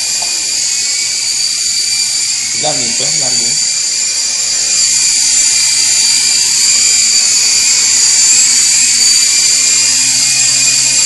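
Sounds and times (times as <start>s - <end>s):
toy helicopter whine: 0.0s - 11.0s.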